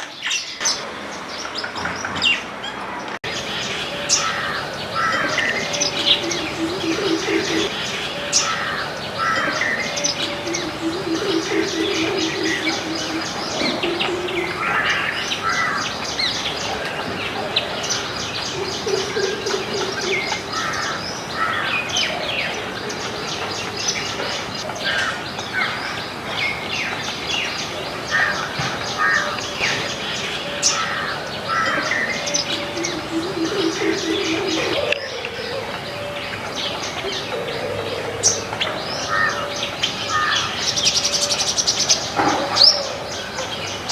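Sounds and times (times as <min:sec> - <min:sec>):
birds chirping and trilling: 0:00.0 - 0:43.9
low pulsing bird call: 0:03.3 - 0:25.2, 0:28.1 - 0:43.8.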